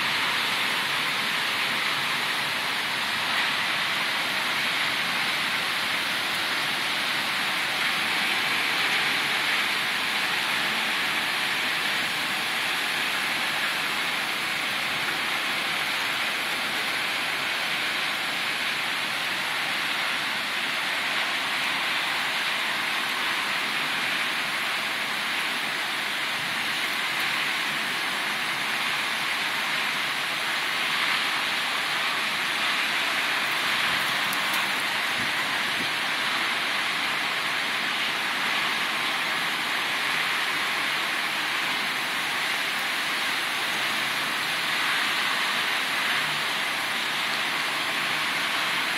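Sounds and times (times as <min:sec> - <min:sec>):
heavy rain hissing: 0:00.0 - 0:48.9.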